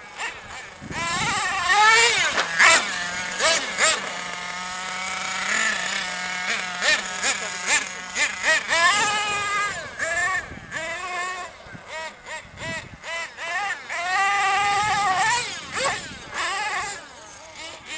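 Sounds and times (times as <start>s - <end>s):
nitro engine revving: 0.0s - 17.9s.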